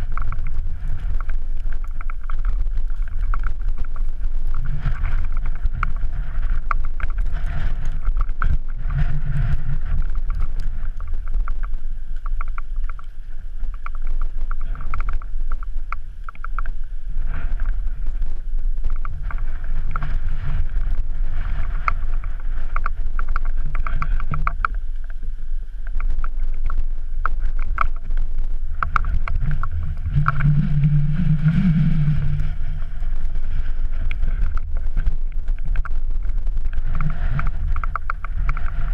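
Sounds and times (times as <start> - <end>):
wind buffeting microphone: 0.0 - 25.2, 25.8 - 38.9.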